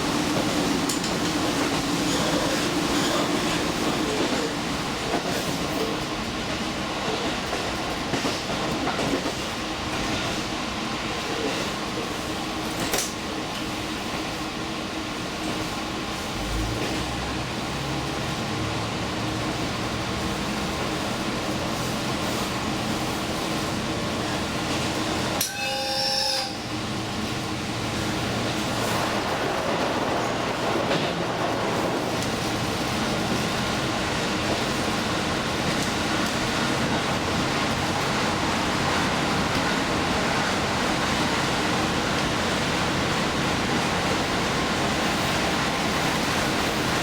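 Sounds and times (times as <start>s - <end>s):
train rumble and rail noise: 0.0s - 47.0s.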